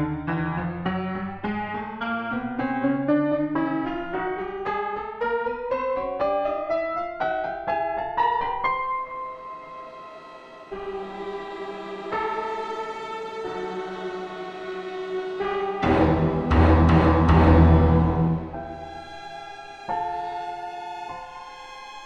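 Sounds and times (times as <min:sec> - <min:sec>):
old piano notes climbing: 0:00.0 - 0:22.0.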